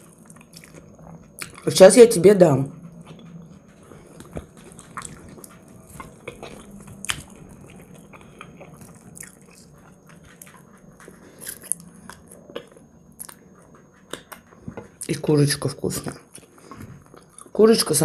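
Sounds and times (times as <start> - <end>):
chewing fried chicken: 0.0 - 17.6.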